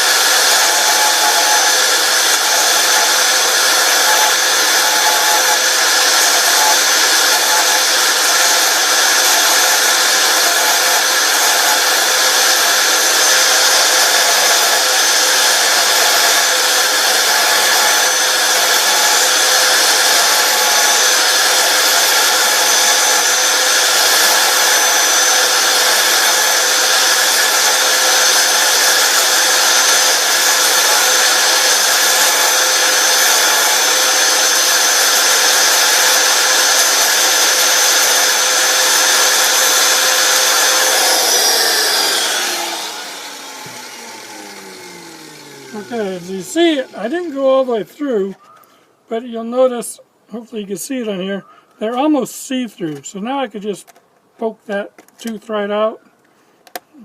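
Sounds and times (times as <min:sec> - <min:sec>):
belt sander sanding plastic: 0:00.0 - 0:47.7.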